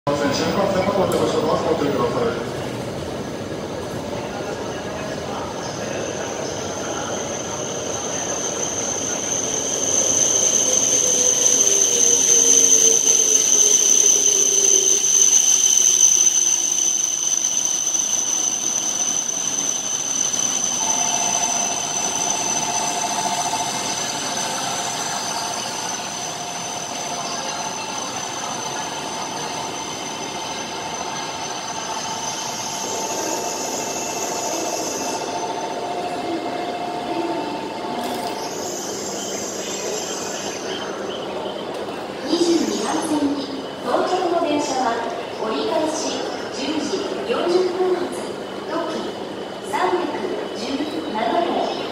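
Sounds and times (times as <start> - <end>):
train braking whine: 0.1 - 51.9.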